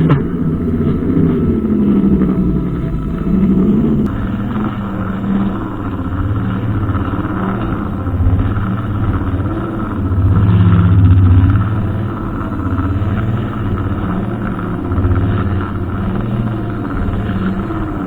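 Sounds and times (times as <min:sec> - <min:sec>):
brushcutter engine running: 0:00.0 - 0:18.0.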